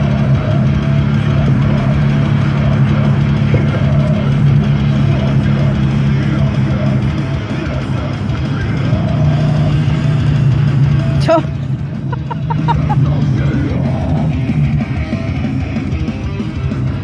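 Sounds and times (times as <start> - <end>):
music playing in a car: 0.0 - 17.0.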